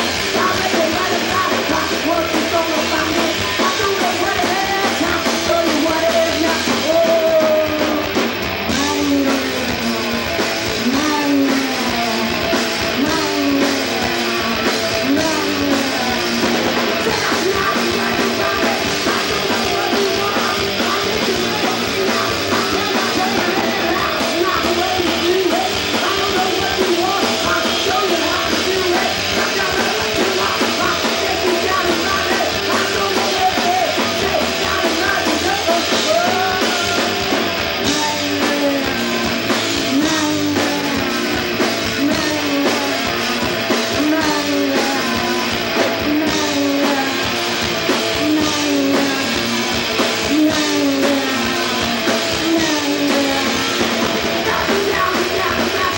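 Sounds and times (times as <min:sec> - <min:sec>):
live rock band playing: 0:00.0 - 0:55.9
sliding lead guitar line: 0:00.0 - 0:55.9.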